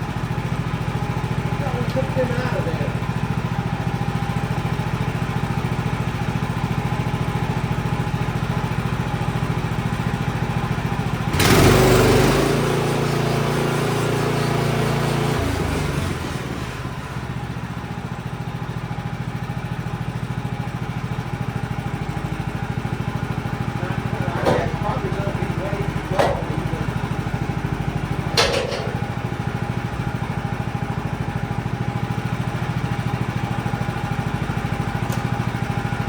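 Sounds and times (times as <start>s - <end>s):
sawmill engine idling: 0.0s - 36.0s.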